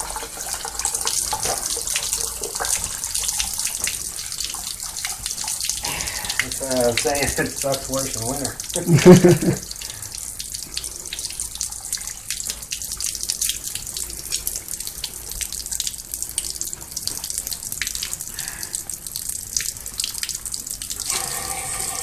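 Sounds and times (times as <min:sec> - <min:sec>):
hose water spraying and splashing: 0:00.0 - 0:22.0
water dripping: 0:00.0 - 0:22.0.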